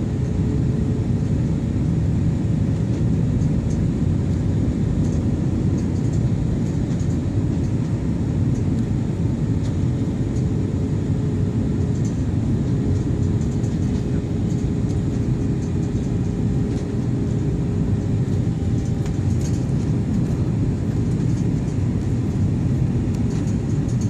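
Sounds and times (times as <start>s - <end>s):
airliner engines and airflow rumble: 0.0s - 24.0s.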